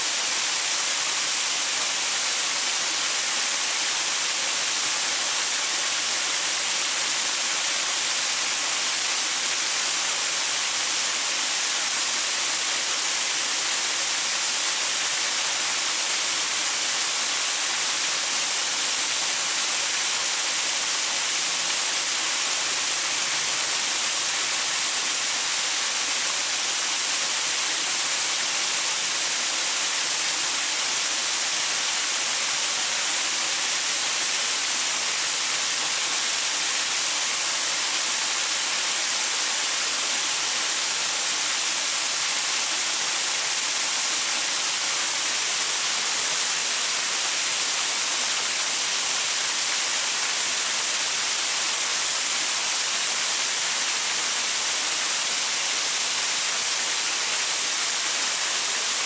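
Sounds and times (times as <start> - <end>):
waterfall pouring over rocks: 0.0 - 59.0.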